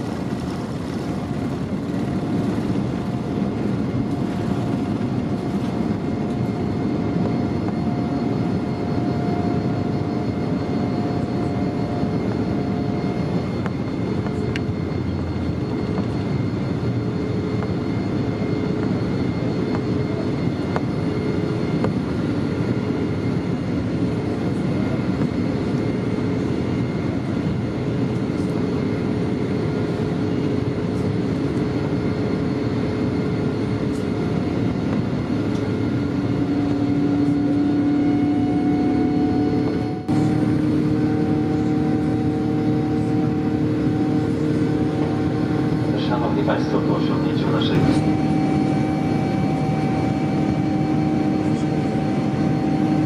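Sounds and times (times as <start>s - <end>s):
faint whining tone: 0.0s - 53.0s
jet engine rumble in cabin: 0.0s - 53.0s.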